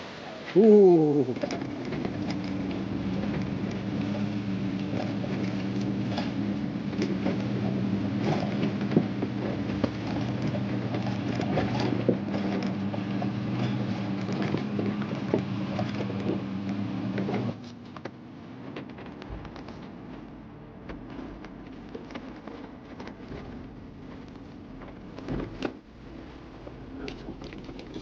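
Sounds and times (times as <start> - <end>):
vehicle engine running at low speed: 0.0 - 28.0
clicks knocks and creaks: 1.3 - 25.8.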